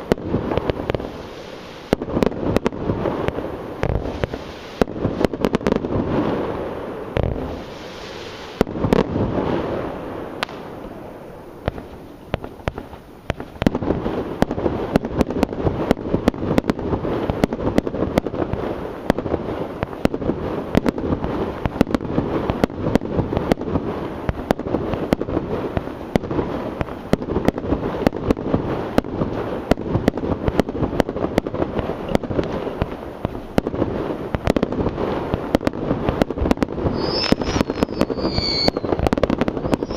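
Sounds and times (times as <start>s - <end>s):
fireworks bangs with echoes: 0.0s - 39.9s
rapid fireworks barrage: 0.0s - 39.9s.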